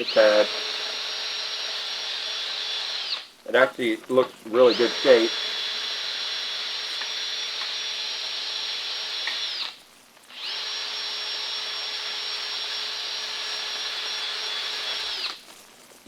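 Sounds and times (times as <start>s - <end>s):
power tool high-pitched whine: 0.0s - 15.6s.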